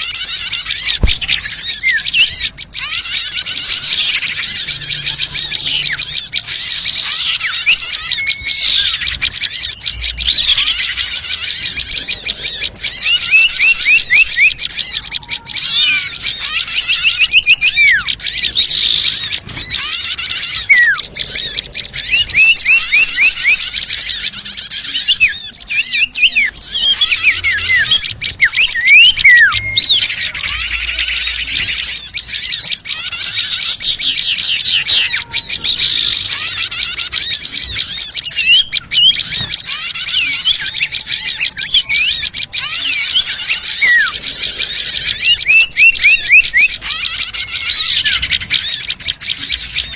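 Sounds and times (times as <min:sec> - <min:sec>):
small birds chirping and twittering: 0:00.0 - 0:49.9.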